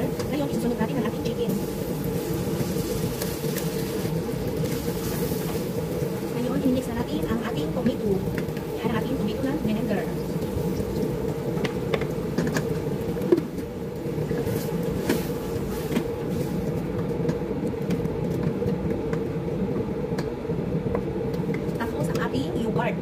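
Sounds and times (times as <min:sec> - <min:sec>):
wooden spoon stirring in pot: 0:00.0 - 0:19.2
steady machine hum: 0:00.0 - 0:23.0.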